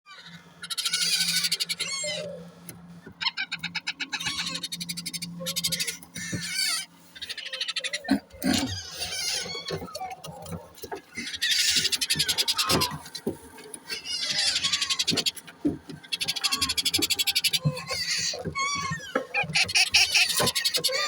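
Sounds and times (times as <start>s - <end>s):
parrot chicks begging calls: 0.1s - 21.0s.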